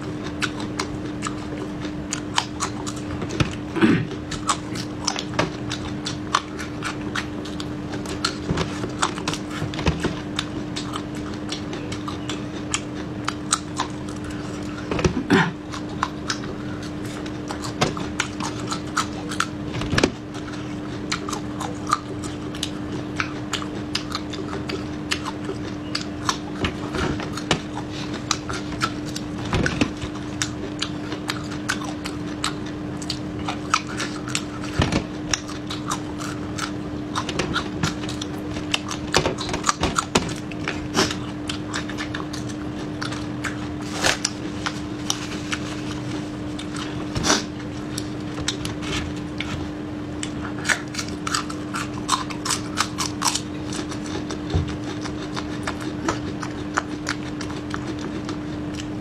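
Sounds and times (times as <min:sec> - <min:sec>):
steady low hum: 0:00.0 - 0:59.0
crunching chili peppers: 0:00.1 - 0:59.0.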